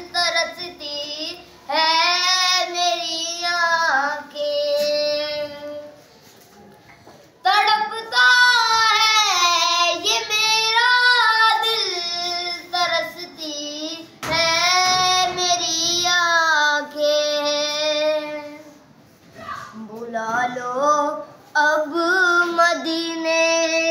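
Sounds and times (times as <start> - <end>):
boy singing unaccompanied: 0.0 - 6.1, 7.4 - 18.9, 19.7 - 23.9.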